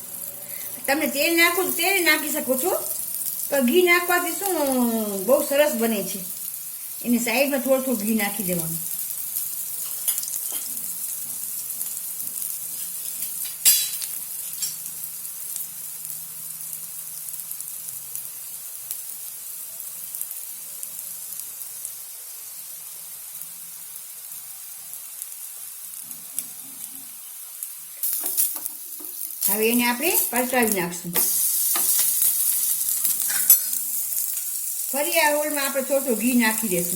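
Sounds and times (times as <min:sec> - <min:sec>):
flatbread sizzling in a pan: 0:00.0 - 0:36.9
sharp crackle of frying ghee: 0:00.0 - 0:36.9.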